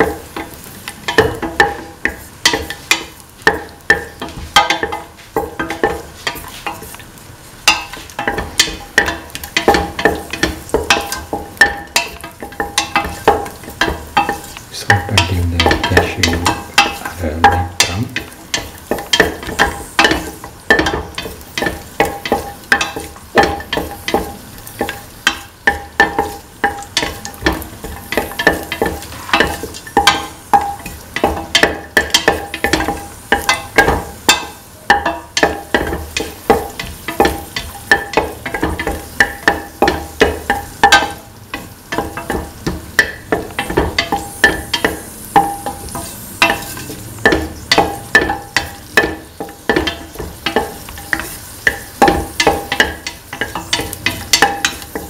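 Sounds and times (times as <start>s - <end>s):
nuts sizzling in oil: 0.0s - 55.0s.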